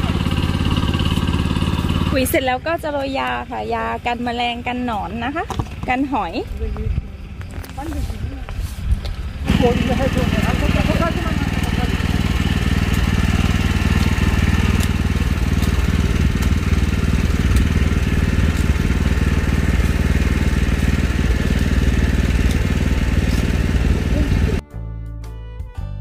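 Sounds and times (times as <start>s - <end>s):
small engine running: 0.0s - 24.6s.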